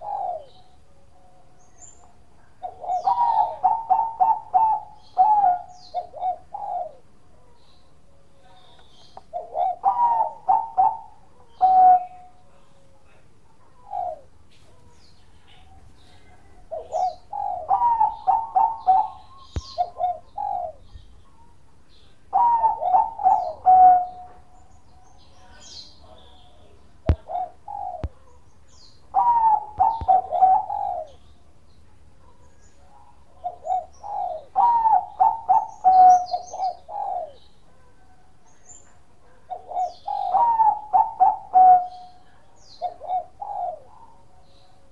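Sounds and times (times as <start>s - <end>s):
dove cooing: 0.0s - 0.8s, 1.6s - 7.6s, 8.4s - 21.5s, 22.2s - 28.4s, 29.0s - 31.5s, 32.2s - 44.9s
faint bird chirps: 0.0s - 44.9s.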